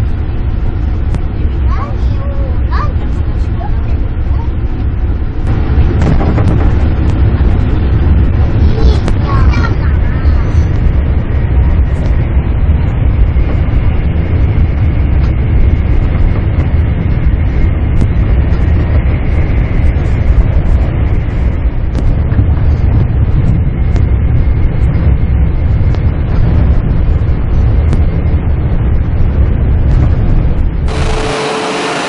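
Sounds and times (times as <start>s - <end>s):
deep train rumble: 0.0s - 32.0s.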